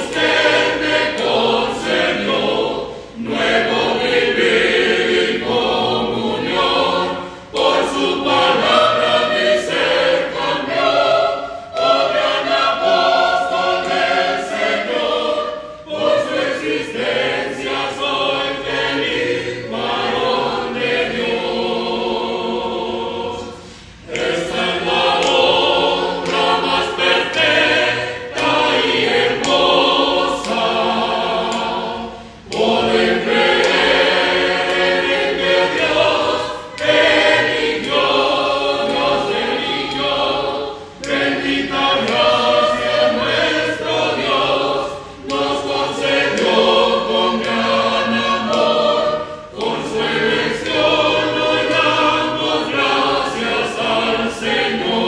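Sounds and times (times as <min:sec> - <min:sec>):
church choir singing a hymn: 0:00.0 - 0:55.0.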